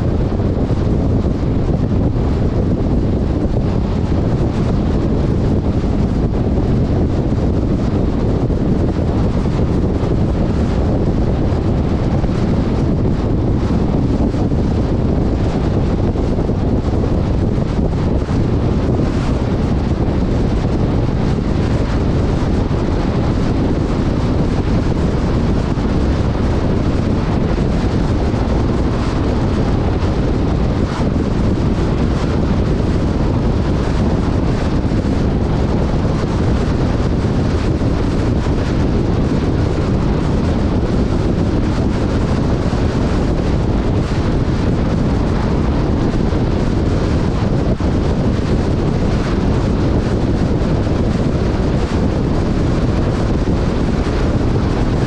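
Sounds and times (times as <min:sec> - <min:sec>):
off-road vehicle running: 0:00.0 - 0:55.0
wind buffeting microphone: 0:00.0 - 0:55.0.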